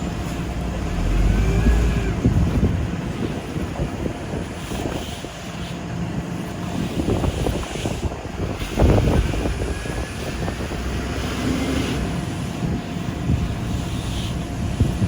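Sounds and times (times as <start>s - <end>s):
engine running: 0.0s - 15.0s
wind buffeting microphone: 0.0s - 15.0s.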